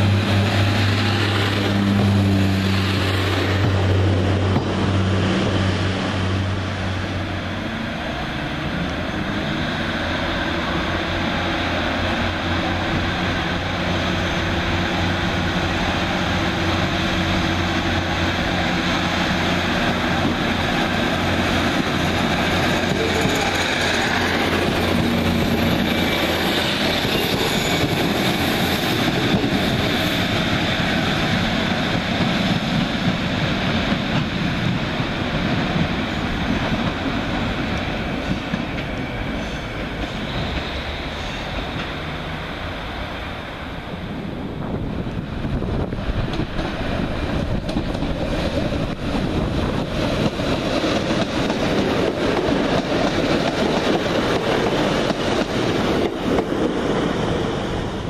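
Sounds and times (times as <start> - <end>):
diesel train engine drone: 0.0 - 58.0.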